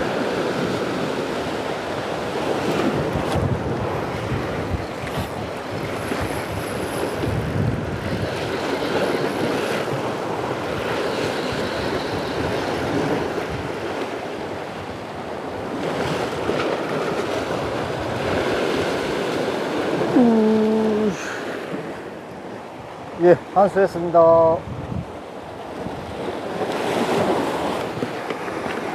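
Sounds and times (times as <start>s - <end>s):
waves washing against rocks: 0.0s - 20.2s, 24.6s - 28.9s
wind on microphone: 0.0s - 23.2s, 24.4s - 28.9s.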